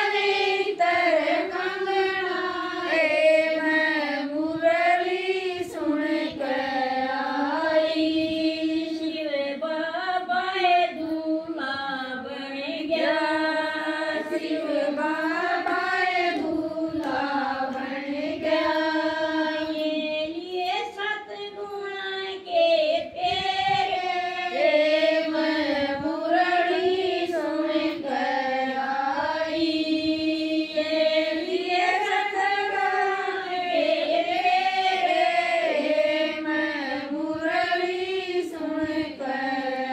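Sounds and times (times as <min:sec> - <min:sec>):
woman singing devotional song: 0:00.0 - 0:39.9.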